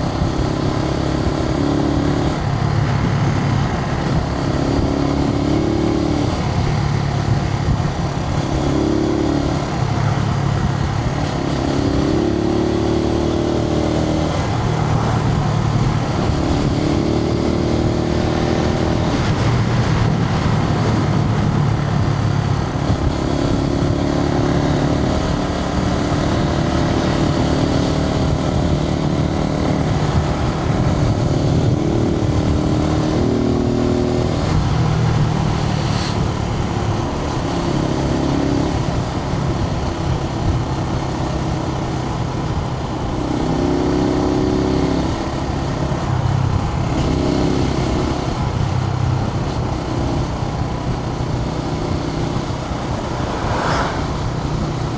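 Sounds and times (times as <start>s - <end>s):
motorcycle engine running: 0.0s - 54.9s
wind noise: 0.0s - 54.9s.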